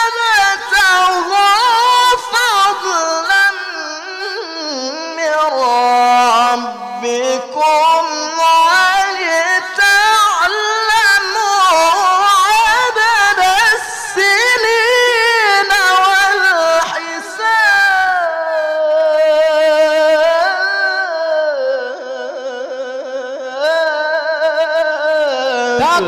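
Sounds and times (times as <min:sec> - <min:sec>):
man reciting melodically: 0:00.0 - 0:26.0.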